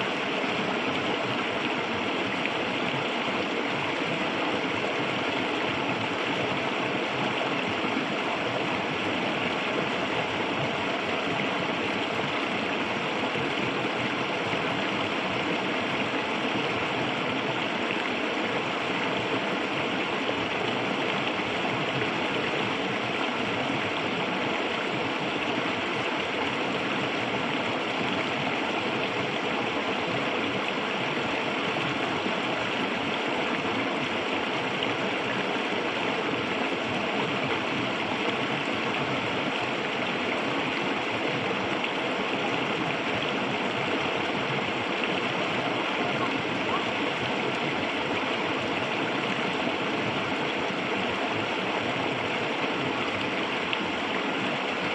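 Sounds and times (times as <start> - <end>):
river flowing over stones: 0.0 - 54.9.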